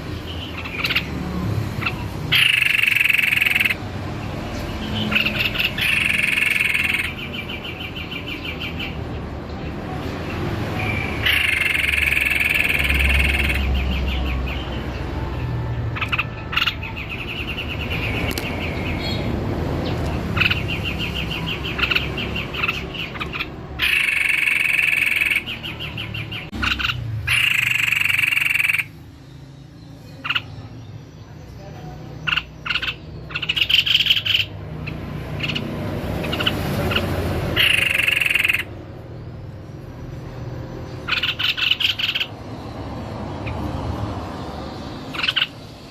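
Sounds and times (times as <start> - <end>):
bird singing trilled notes: 0.0 - 45.9.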